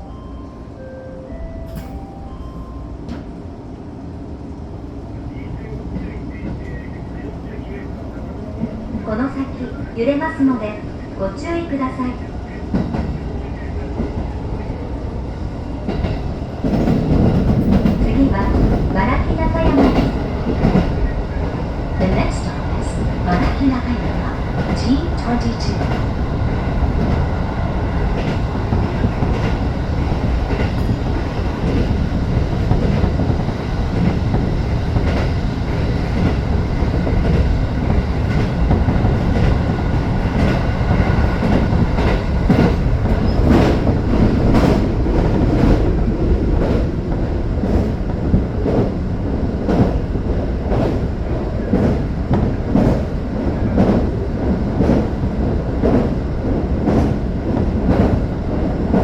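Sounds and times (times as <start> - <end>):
train wheels rumbling on rail: 0.8 - 59.0.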